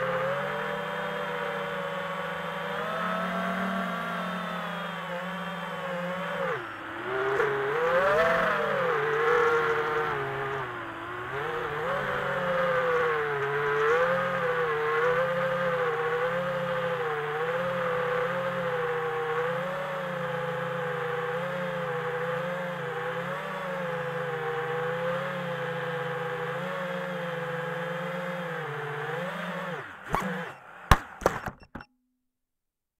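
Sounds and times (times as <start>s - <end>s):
quadcopter motors whining: 0.0s - 31.8s.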